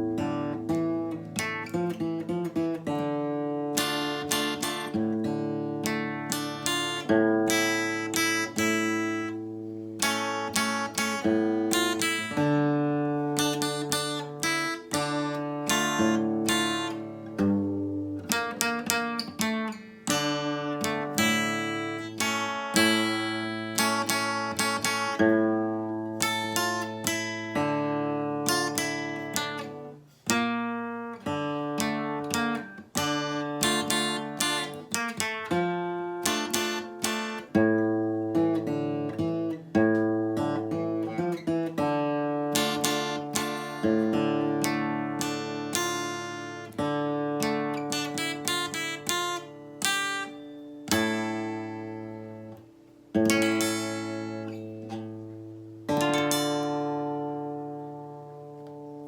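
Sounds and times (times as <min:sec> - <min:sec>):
acoustic guitar melody: 0:00.0 - 0:59.0.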